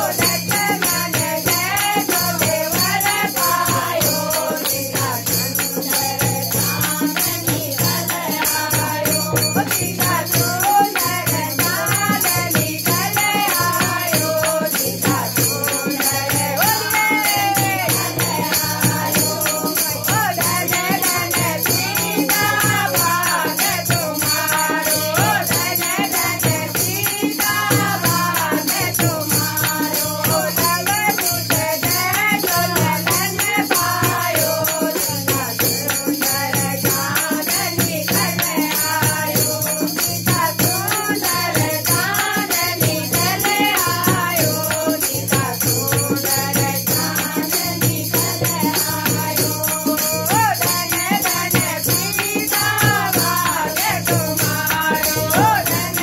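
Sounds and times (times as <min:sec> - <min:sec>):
hand drum beat: 0:00.0 - 0:56.0
jingling tambourine: 0:00.0 - 0:56.0
women singing folk song: 0:00.0 - 0:56.0.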